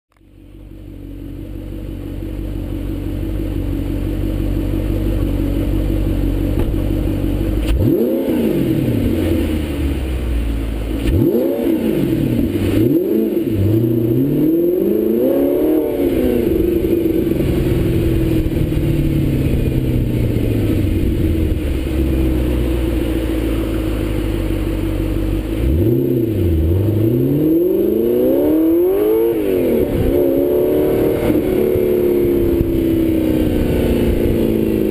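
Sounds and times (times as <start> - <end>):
car engine revving while driving: 5.2 - 34.9.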